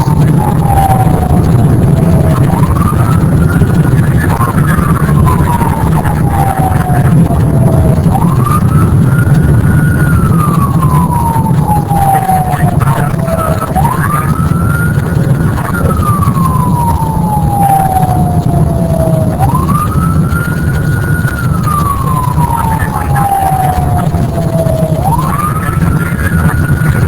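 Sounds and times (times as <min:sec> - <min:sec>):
low rumble: 0:00.0 - 0:27.0
warning siren wailing: 0:00.0 - 0:27.0.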